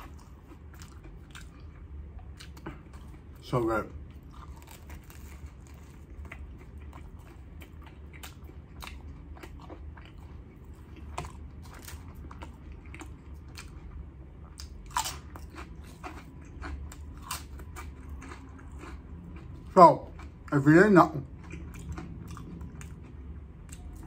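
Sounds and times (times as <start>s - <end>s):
wet chewing clicks and crunches: 0.0s - 20.6s, 21.2s - 24.0s.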